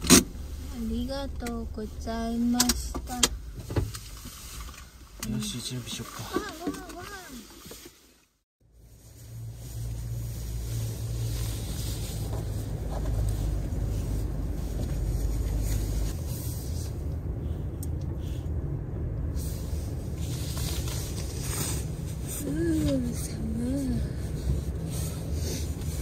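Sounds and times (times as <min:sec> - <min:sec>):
vehicle engine rumble: 0:00.0 - 0:07.6, 0:08.6 - 0:26.0
road noise: 0:00.0 - 0:26.0.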